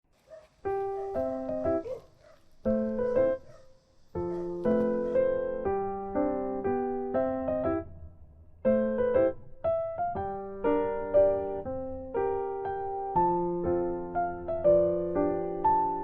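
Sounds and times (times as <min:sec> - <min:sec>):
slow piano melody: 0:00.2 - 0:16.0.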